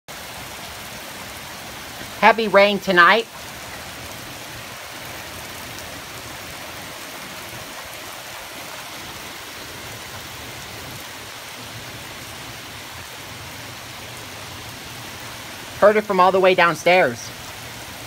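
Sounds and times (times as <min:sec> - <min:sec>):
heavy rain falling: 0:00.1 - 0:18.0.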